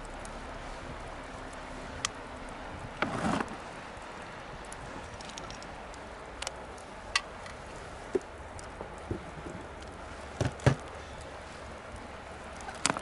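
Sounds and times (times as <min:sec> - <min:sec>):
bonfire crackling: 0:00.0 - 0:13.0
fire pops and snaps: 0:00.0 - 0:13.0
fire hiss: 0:00.2 - 0:13.0.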